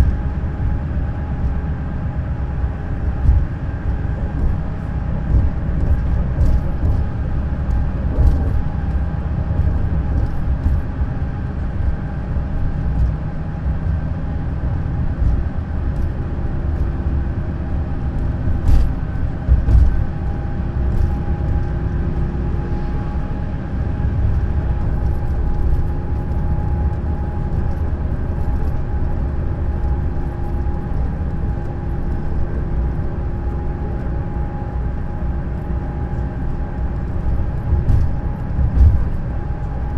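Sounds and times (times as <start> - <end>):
coach road and engine rumble: 0.0 - 39.9
drivetrain whine: 0.0 - 39.9.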